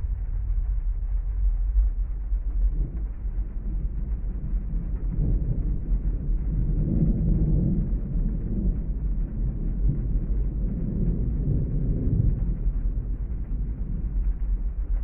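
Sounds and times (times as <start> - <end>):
low thunder rumble: 0.0 - 15.0
muffled rain on car: 0.0 - 15.0.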